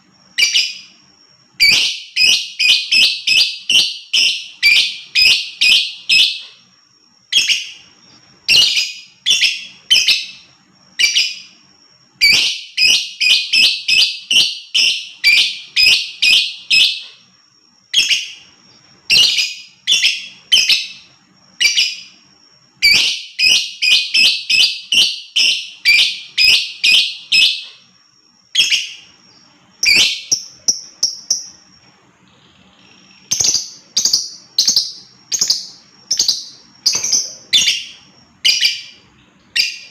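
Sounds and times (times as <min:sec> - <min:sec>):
lovebird shrill chirps: 0:00.2 - 0:06.7, 0:07.3 - 0:17.2, 0:17.9 - 0:27.9, 0:28.5 - 0:31.8, 0:32.5 - 0:39.9.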